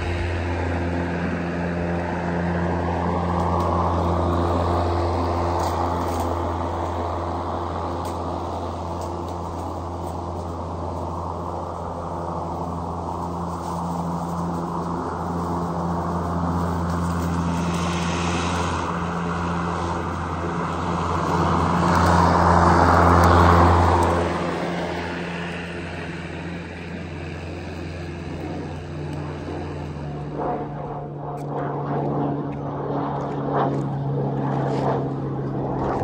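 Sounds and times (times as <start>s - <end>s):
lawn mower cutting grass: 0.0s - 31.5s.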